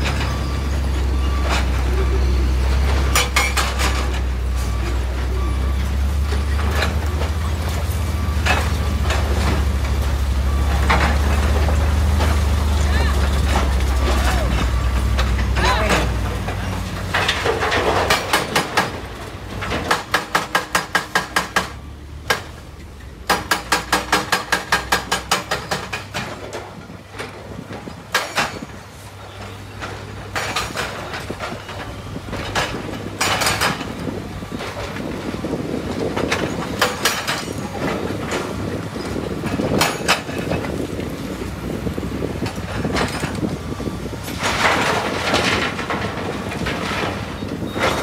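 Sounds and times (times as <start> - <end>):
excavator diesel engine humming: 0.0 - 48.0.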